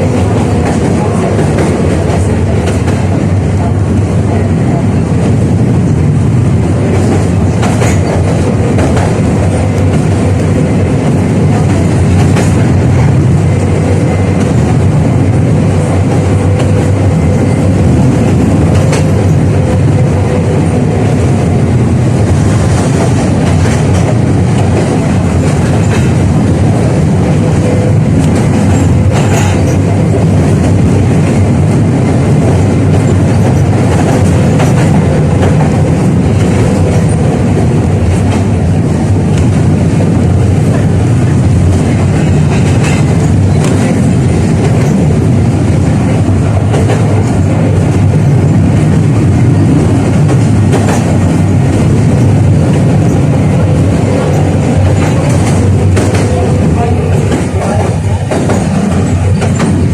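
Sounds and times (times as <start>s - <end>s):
rail clicks: 0.0s - 59.9s
tram rumbling along track: 0.0s - 59.9s.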